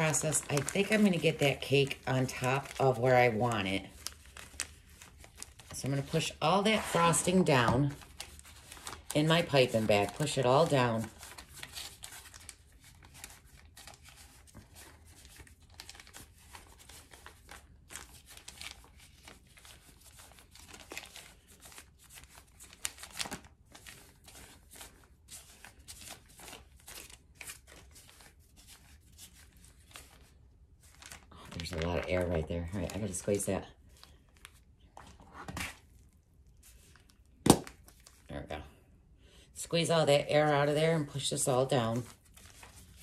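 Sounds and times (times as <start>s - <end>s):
plastic piping bag crinkling: 0.0s - 38.3s, 40.4s - 43.0s.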